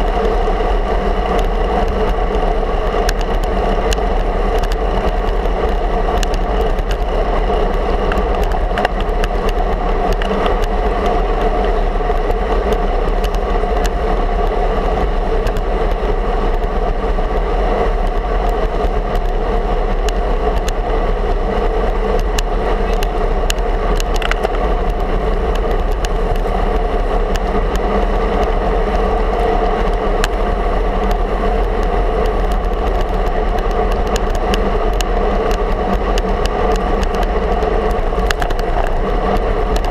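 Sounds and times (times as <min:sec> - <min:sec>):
bike road rumble: 0:00.0 - 0:39.9
wind rush: 0:00.0 - 0:39.9.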